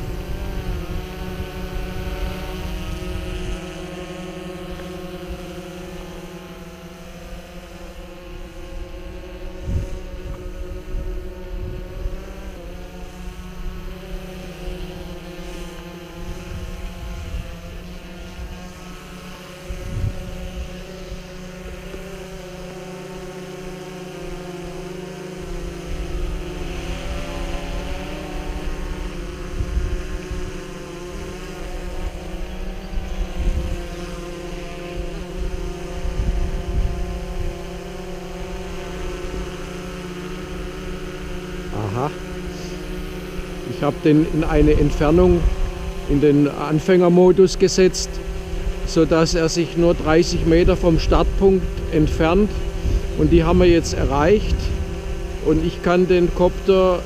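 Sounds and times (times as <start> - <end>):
wind buffeting microphone: 0.0 - 4.1, 8.0 - 18.9, 19.6 - 21.9, 25.4 - 39.6, 40.4 - 46.6, 47.5 - 57.0
drone propellers whirring: 0.0 - 57.0.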